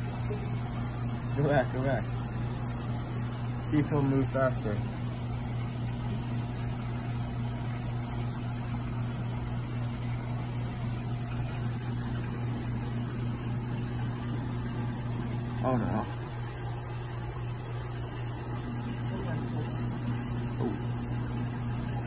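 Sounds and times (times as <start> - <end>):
aquarium pumps humming: 0.0 - 22.0.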